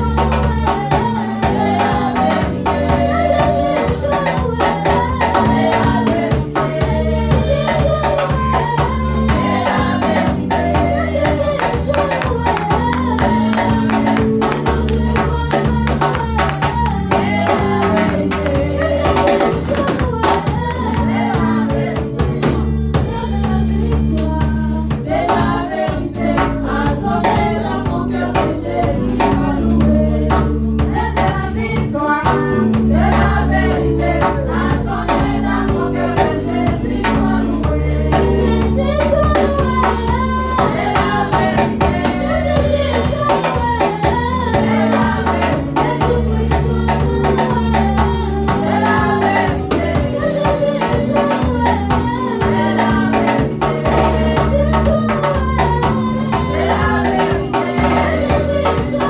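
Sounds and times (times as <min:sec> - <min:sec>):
band with drum kit: 0:00.0 - 0:59.0
group singing worship song: 0:00.0 - 0:59.0.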